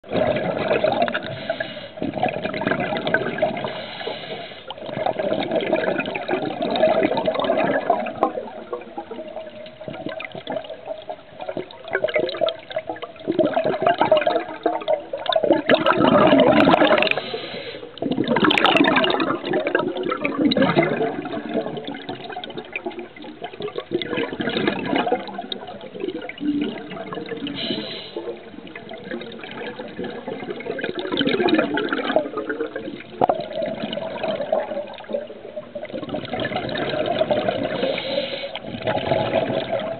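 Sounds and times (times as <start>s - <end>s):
underwater exhaled air bubbling: 0.0s - 39.9s.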